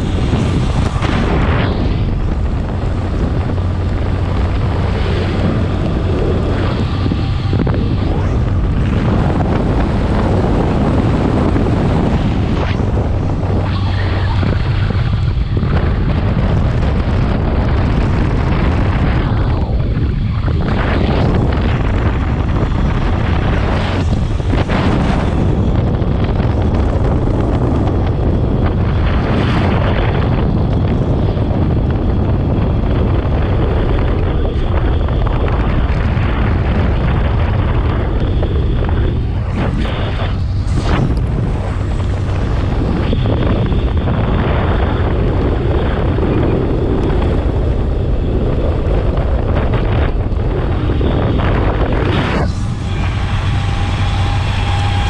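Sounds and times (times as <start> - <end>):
motorcycle engine: 0.0 - 55.0
road noise: 0.0 - 55.0
wind buffeting microphone: 0.0 - 55.0.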